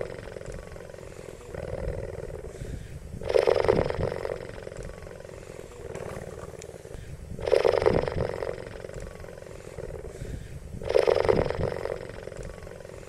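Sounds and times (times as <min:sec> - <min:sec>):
cheetah low pulsing rumble: 0:00.0 - 0:13.0.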